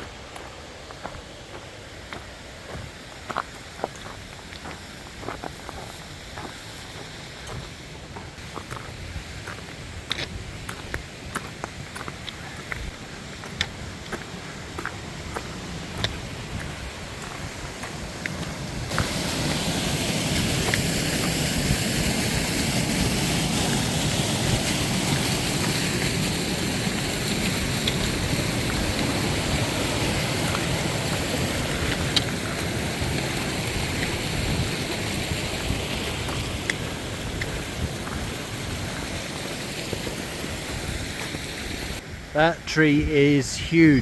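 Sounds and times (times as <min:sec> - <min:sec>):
rushing creek water: 0:00.0 - 0:44.0.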